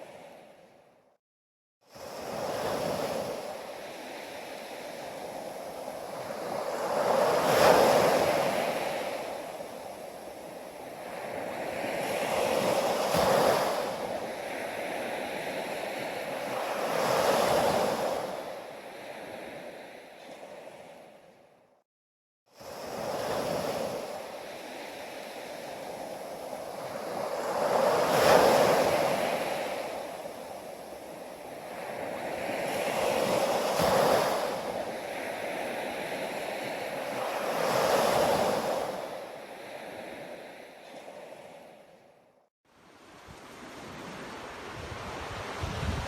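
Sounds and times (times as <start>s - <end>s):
ocean waves breaking on beach: 0.0s - 0.8s, 1.9s - 21.4s, 22.6s - 42.1s, 42.7s - 46.0s.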